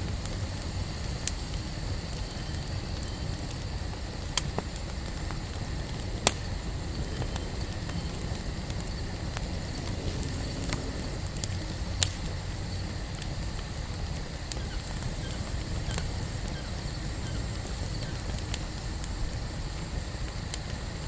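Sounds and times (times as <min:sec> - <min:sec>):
campfire crackling: 0:00.0 - 0:21.0
sharp fire pops: 0:00.1 - 0:21.0.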